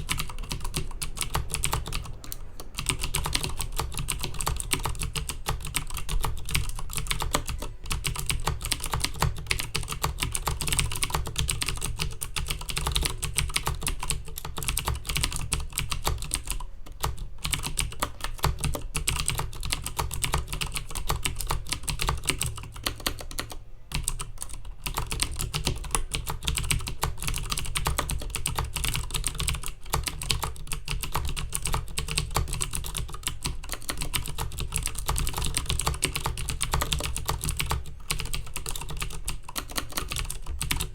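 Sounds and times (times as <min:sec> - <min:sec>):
clicky mechanical keyboard typing: 0:00.0 - 0:40.9.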